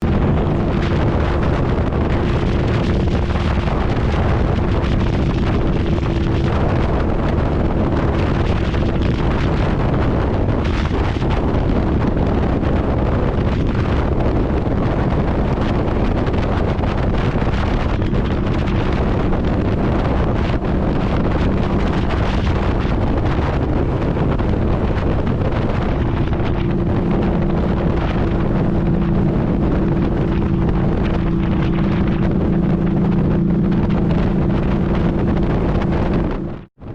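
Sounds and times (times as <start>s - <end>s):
motorcycle engine droning: 0.0s - 36.9s
wind rush on microphone: 0.0s - 36.9s.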